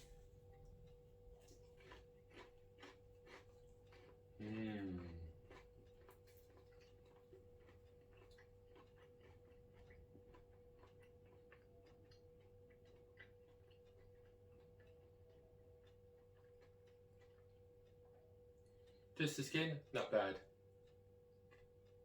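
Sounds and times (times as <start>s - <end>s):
chewing crunchy food: 0.0s - 22.0s
faint steady hum: 0.0s - 22.0s.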